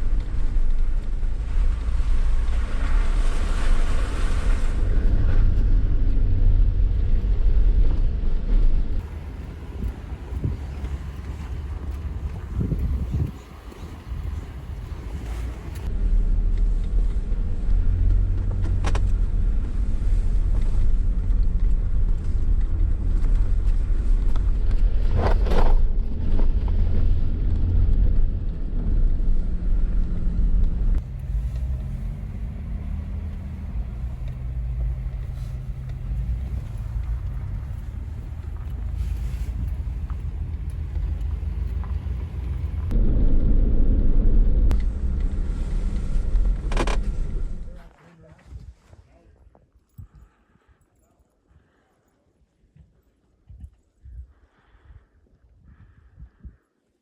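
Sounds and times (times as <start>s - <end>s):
vehicle engine and tyres rumbling: 0.0s - 51.8s.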